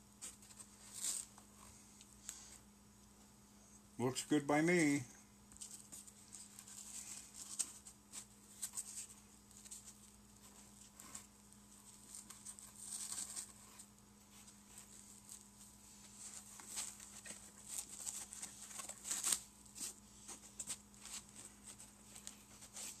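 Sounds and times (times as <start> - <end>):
packing foam scratchy rustles: 0.1 - 1.6, 5.6 - 23.0.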